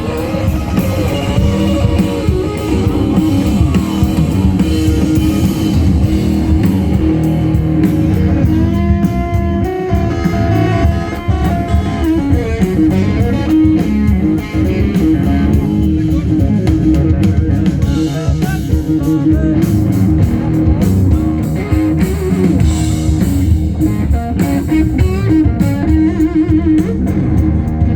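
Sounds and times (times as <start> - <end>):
drum kit: 0.0 - 27.9
lead guitar bending notes: 0.0 - 27.9
rock band playing: 0.0 - 27.9.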